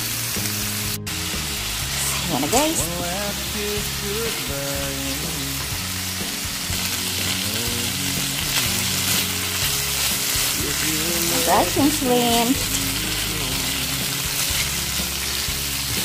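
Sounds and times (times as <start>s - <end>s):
shrimp sizzling in a pan: 0.0s - 16.0s.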